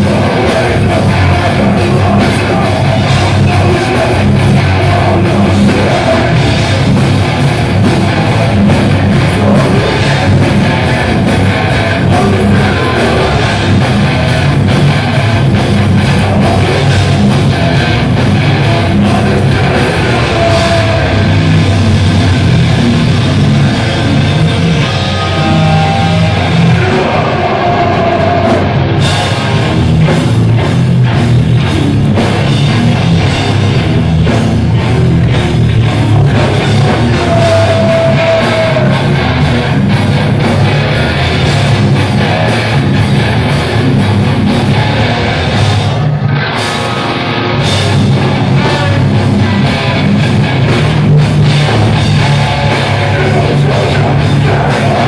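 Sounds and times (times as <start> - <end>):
live metal band playing: 0.0 - 55.0.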